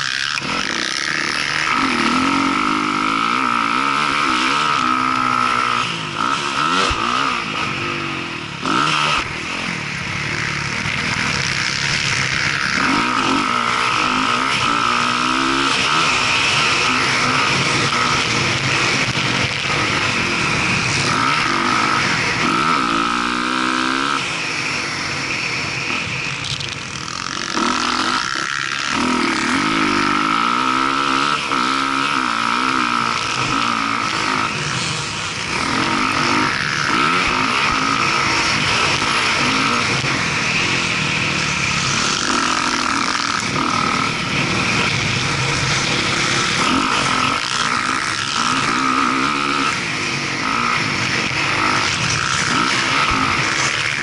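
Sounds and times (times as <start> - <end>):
dirt bike engine revving: 0.0 - 54.0
steady rush of noise: 0.0 - 54.0.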